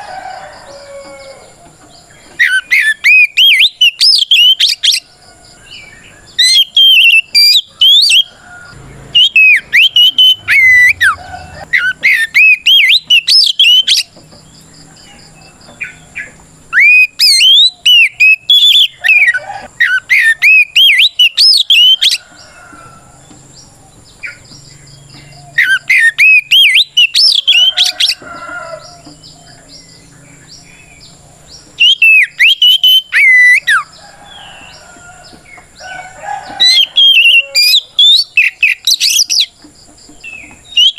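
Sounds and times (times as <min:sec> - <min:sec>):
bird singing whistled notes: 0:00.6 - 0:08.4, 0:09.1 - 0:14.2, 0:15.0 - 0:22.4, 0:24.1 - 0:28.3, 0:29.0 - 0:34.8, 0:36.5 - 0:39.6, 0:40.2 - 0:40.9.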